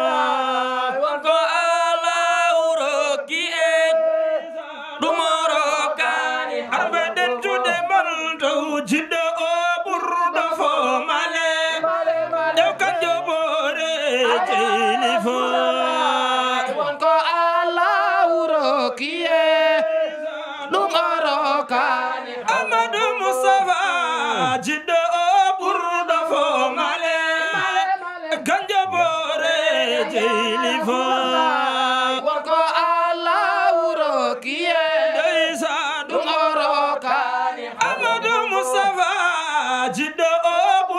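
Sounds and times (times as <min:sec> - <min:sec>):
men singing devotional chant: 0:00.0 - 0:40.9.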